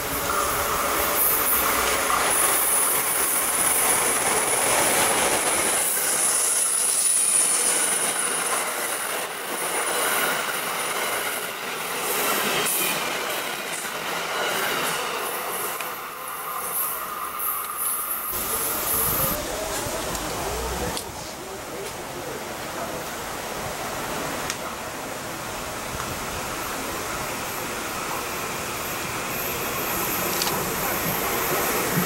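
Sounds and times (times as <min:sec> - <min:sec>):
passenger train rumbling past: 0:00.0 - 0:32.0.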